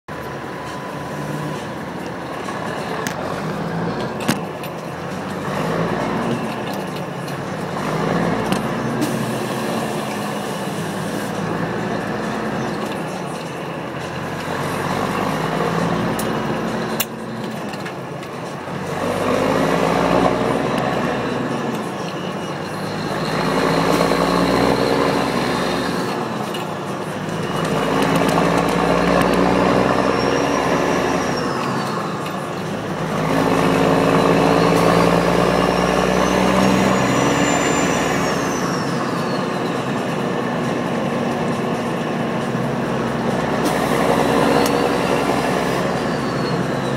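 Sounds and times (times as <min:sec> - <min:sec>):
diesel truck engine revving: 0:00.1 - 0:46.9.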